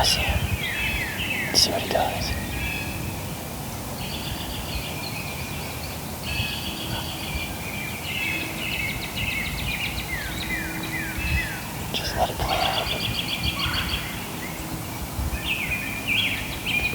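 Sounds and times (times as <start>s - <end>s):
songbirds singing: 0.0s - 16.9s.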